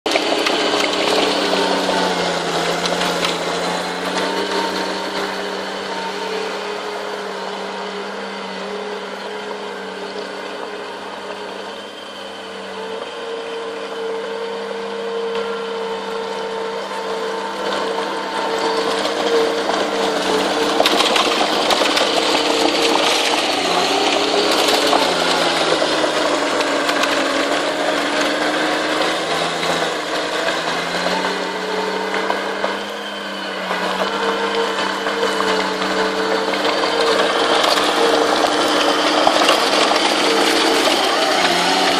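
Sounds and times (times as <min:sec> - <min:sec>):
bulldozer diesel engine under load: 0:00.0 - 0:41.9.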